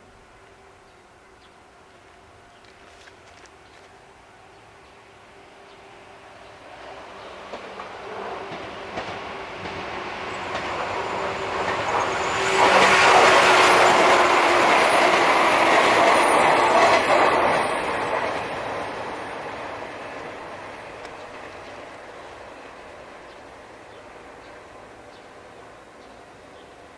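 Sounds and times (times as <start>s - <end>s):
freight train passing: 5.0s - 26.9s.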